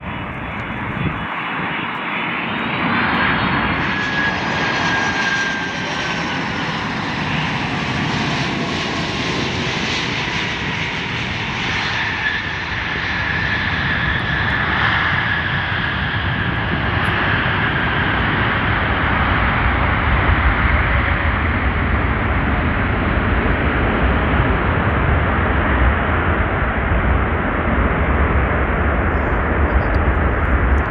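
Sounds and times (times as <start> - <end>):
jet engines whining: 0.0 - 30.9.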